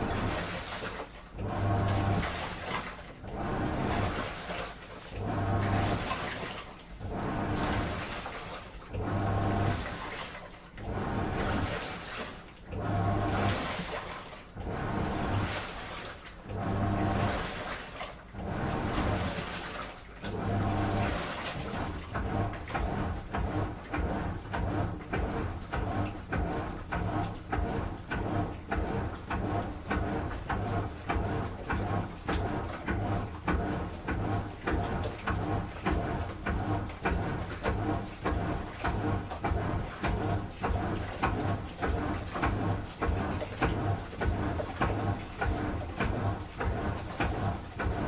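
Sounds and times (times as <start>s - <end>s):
washing machine churning: 0.0s - 48.0s
washing machine motor hum: 0.0s - 48.0s.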